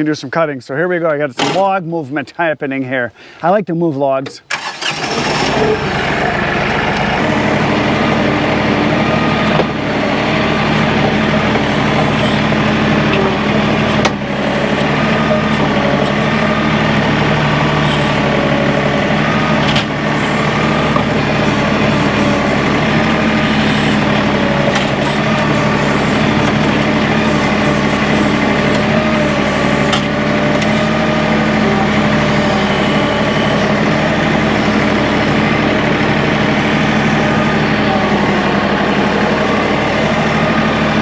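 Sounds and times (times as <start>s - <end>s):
tractor engine running: 4.4s - 41.0s.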